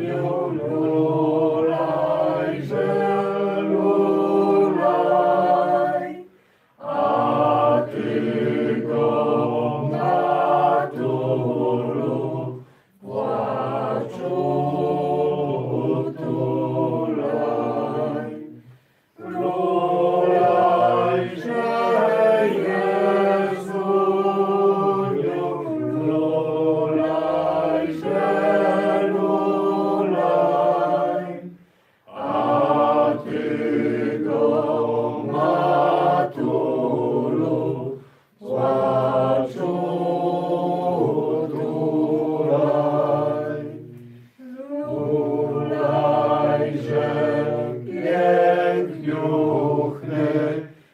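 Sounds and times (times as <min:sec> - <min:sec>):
group singing a hymn unaccompanied: 0:00.0 - 0:50.9.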